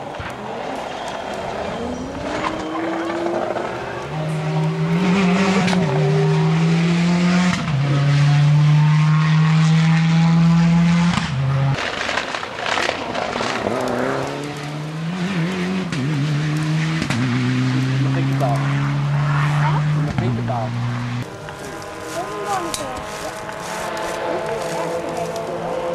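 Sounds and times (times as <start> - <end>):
second rally car engine: 0.0 - 11.8, 12.6 - 25.9
engine crackles: 0.0 - 25.9
rally car engine revving: 0.0 - 25.9.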